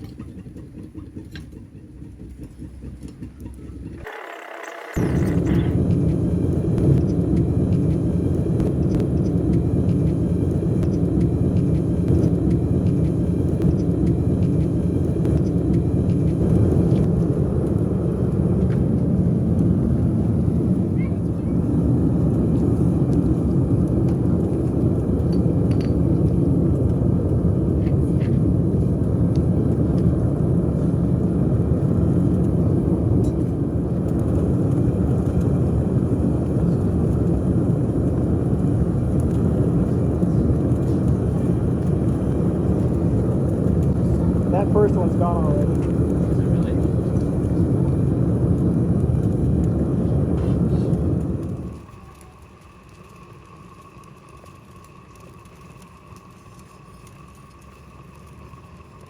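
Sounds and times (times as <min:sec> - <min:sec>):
furnace burner rushing: 0:00.0 - 0:59.0.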